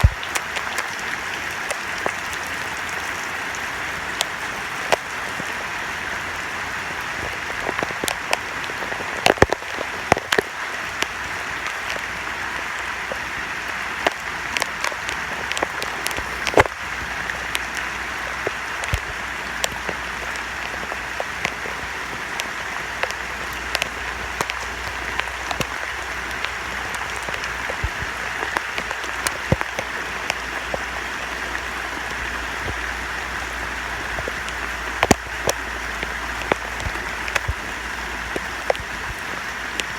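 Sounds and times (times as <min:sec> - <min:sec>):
heavy rain: 0:00.0 - 0:39.9
raindrops tapping: 0:00.0 - 0:39.9.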